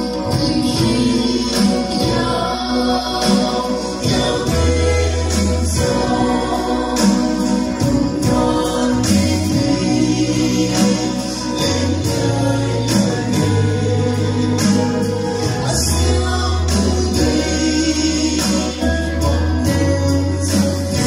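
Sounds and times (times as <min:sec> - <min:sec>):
bass guitar: 0:00.0 - 0:21.0
woman and men singing: 0:00.0 - 0:21.0.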